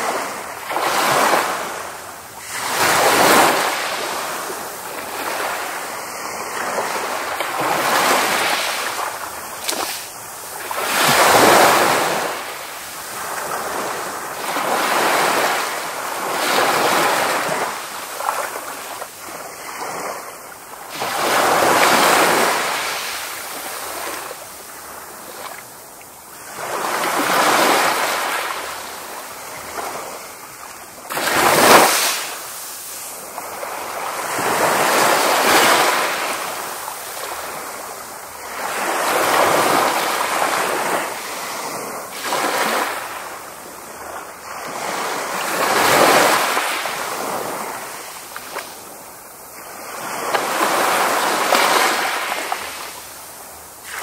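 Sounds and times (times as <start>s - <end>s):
ocean waves breaking: 0.0s - 25.7s, 26.3s - 48.8s, 49.5s - 53.0s.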